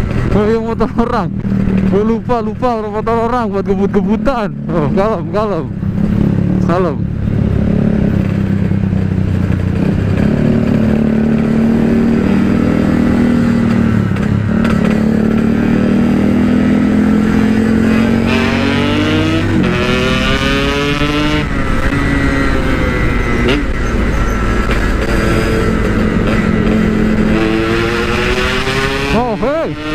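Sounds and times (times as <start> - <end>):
two-stroke motorcycle engine accelerating: 0.0 - 29.9.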